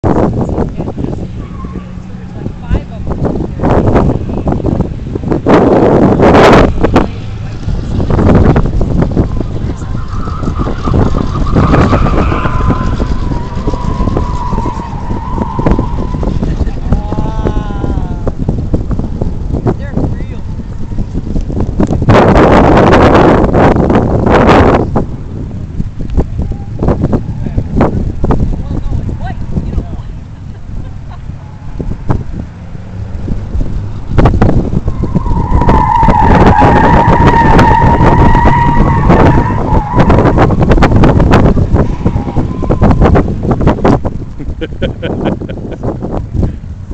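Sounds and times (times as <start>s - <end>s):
car engine under load: 0.0s - 46.9s
tires squealing: 0.1s - 46.9s.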